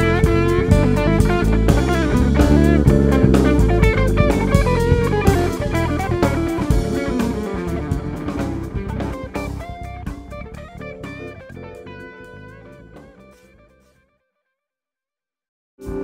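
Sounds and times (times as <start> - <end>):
drums: 0.0 - 13.8
electric guitar: 0.0 - 13.8
keyboard: 0.0 - 13.9, 15.8 - 16.0.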